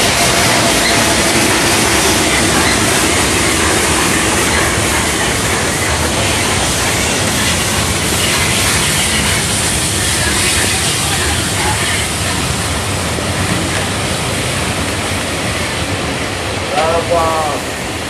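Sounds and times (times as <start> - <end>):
steam hissing: 0.0 - 15.4
heavy rain: 0.0 - 18.0
train wheels on rail: 0.0 - 18.0.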